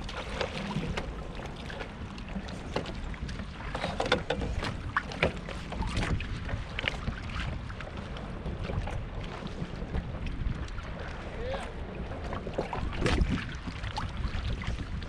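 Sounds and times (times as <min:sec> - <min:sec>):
water splashing against kayak: 0:00.0 - 0:15.0
wind rumbling on microphone: 0:00.0 - 0:15.0.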